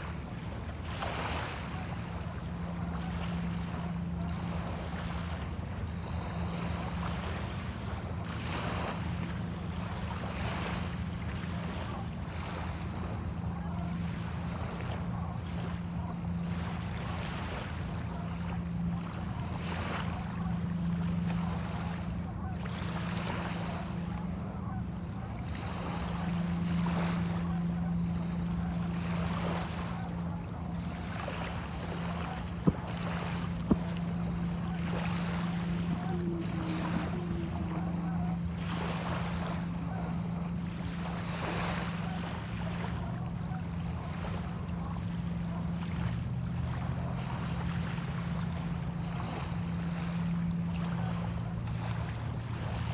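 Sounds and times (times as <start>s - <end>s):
steady low hum: 0.0s - 52.9s
waves lapping on sandy shore: 0.0s - 52.9s.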